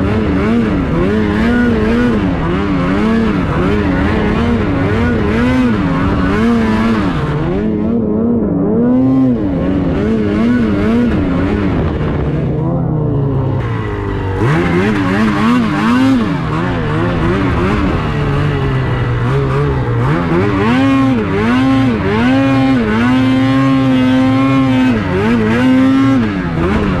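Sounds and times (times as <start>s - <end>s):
snowmobile engine revving: 0.0s - 27.0s.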